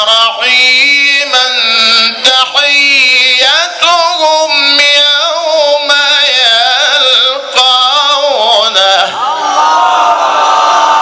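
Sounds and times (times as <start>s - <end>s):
man reciting melodically: 0.0s - 9.2s.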